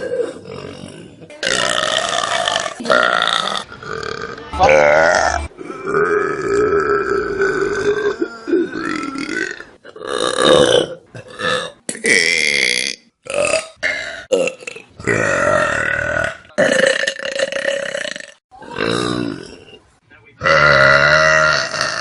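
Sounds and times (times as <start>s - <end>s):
loud human burps: 0.0s - 19.8s, 20.4s - 22.0s.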